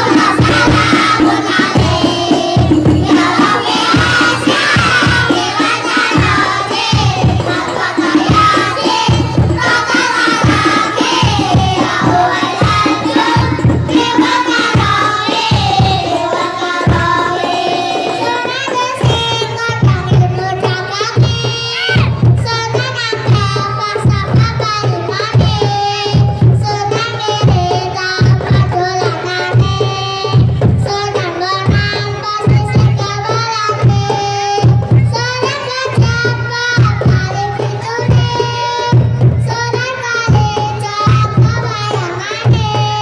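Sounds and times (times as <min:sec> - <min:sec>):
children singing: 0:00.0 - 0:43.0
frame drums beating: 0:00.0 - 0:43.0.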